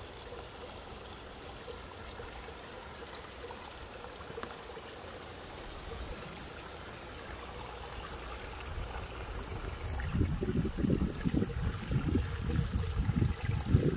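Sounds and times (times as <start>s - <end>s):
stream trickling: 0.0s - 13.9s.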